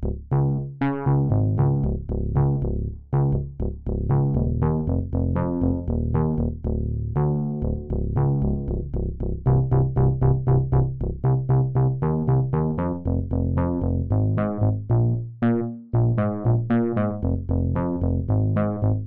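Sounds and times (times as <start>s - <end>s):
plucked synth bass line: 0.0s - 19.0s.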